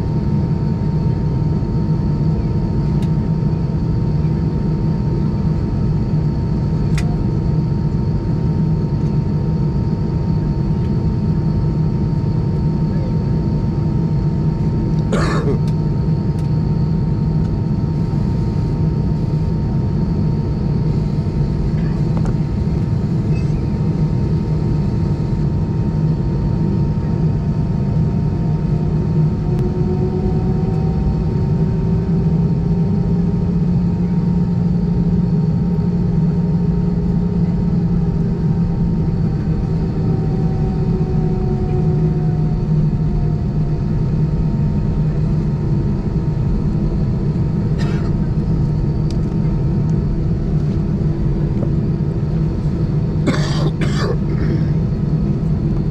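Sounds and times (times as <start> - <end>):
hum: 0.0 - 55.9
jet engine cabin drone: 0.0 - 55.9.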